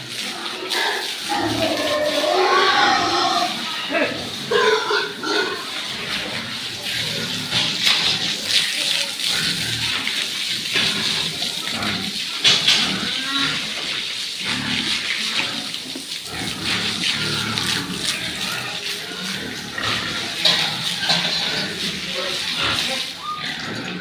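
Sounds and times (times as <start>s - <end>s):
pigs grunting: 0.0s - 24.0s
running water hiss: 0.0s - 24.0s.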